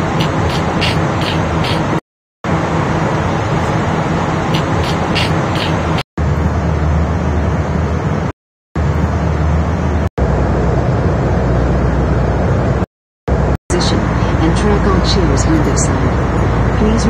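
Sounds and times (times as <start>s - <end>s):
jet cabin engine and airflow rush: 0.0s - 17.0s.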